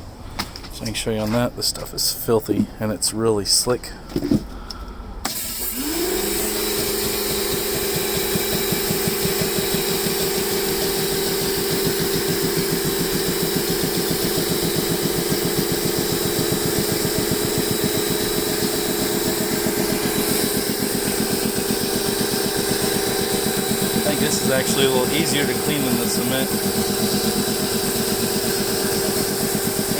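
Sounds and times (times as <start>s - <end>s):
pressure washer running: 5.2s - 29.9s.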